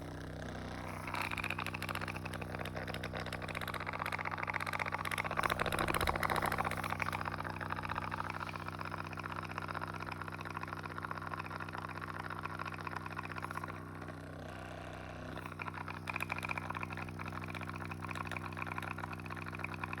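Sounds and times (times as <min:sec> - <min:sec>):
fast dense rattle: 0:00.0 - 0:14.7, 0:15.3 - 0:20.0
massage gun motor humming: 0:00.0 - 0:20.0.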